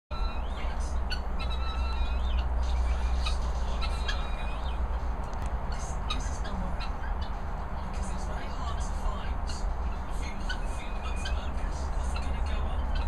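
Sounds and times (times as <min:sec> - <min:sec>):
birds chirping and whistling: 0:00.1 - 0:13.0
steady low rumble: 0:00.1 - 0:13.0.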